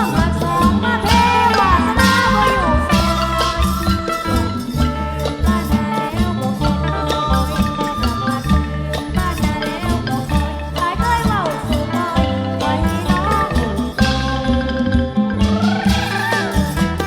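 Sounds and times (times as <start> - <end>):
folk ensemble melody: 0.0 - 17.0
low drum beat: 0.0 - 17.0
shaken rattle percussion: 0.0 - 17.0.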